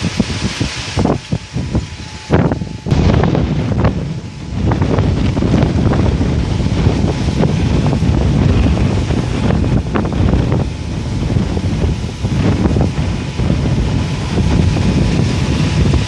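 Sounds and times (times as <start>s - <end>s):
strong wind gusting on microphone: 0.0s - 16.0s.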